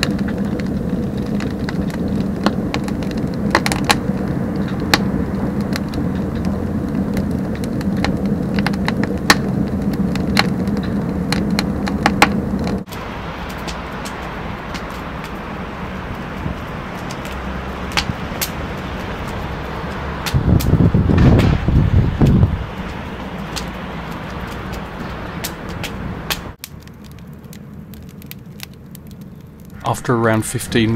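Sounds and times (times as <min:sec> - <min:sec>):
rocket burner draw rushing: 0:00.0 - 0:26.7
burning wood crackling and popping: 0:00.0 - 0:30.9.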